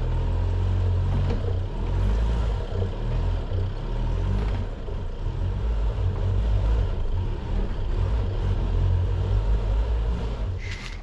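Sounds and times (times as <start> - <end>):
vehicle rumbling over ruts: 0.0 - 11.0.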